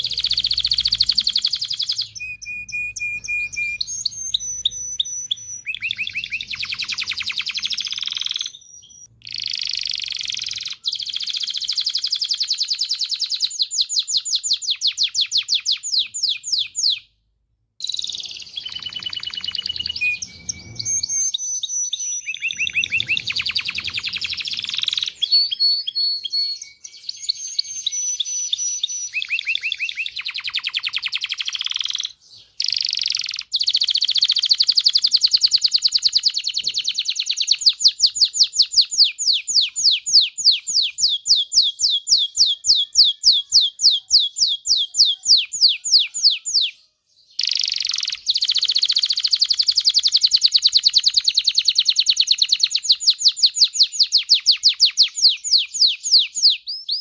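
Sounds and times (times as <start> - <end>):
canary singing trills: 0.0 - 17.2, 17.8 - 57.0.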